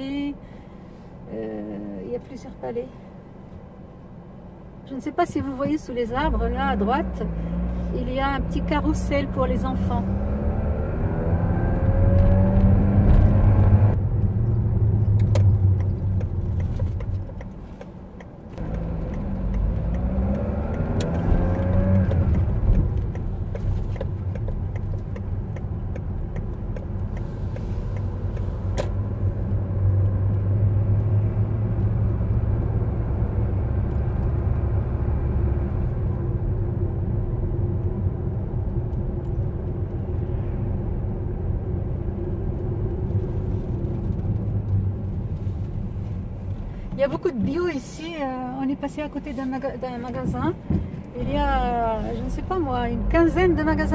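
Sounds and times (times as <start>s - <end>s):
car engine: 0.0s - 53.9s
road noise: 0.0s - 53.9s.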